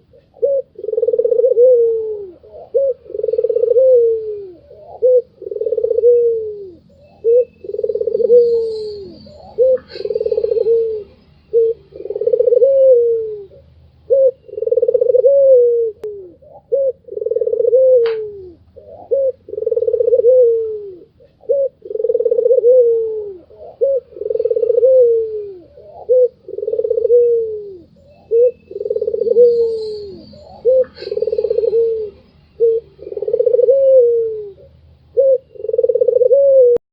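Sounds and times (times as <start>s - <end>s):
dove cooing: 0.0s - 36.8s.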